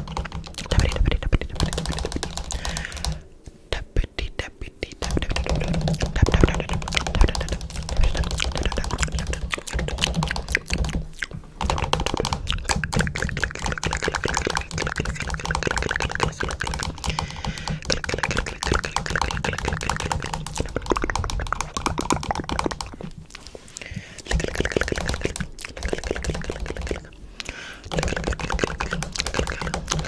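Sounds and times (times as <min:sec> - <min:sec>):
rapid clicking and tapping: 0:00.0 - 0:03.3, 0:05.0 - 0:23.5, 0:24.2 - 0:27.1, 0:27.8 - 0:30.0
steady low hum: 0:00.0 - 0:30.0.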